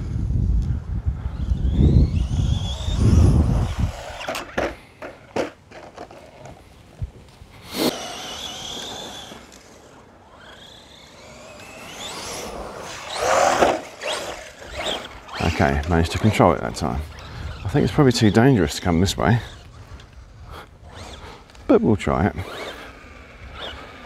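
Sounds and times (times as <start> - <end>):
electric motor whining: 0.1 - 6.6, 7.6 - 24.0.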